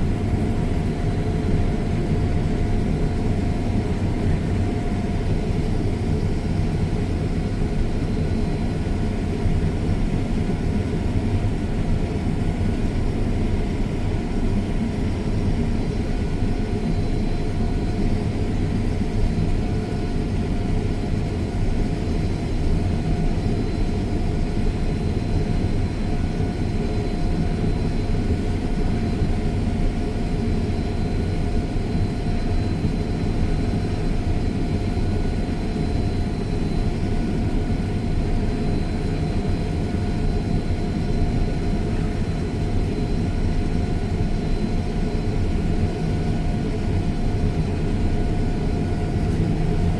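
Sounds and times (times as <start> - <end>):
faint steady whine: 0.0 - 49.9.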